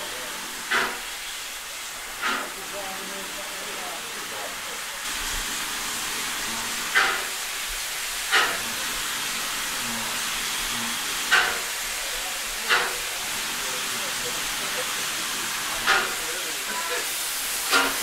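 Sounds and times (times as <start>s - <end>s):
sharp steam bursts: 0.0s - 18.0s
steam hissing: 0.0s - 18.0s.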